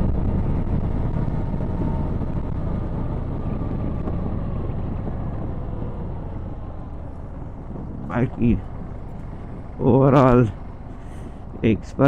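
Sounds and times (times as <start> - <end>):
motorcycle engine cruising: 0.0 - 12.0
wind rush: 0.0 - 12.0.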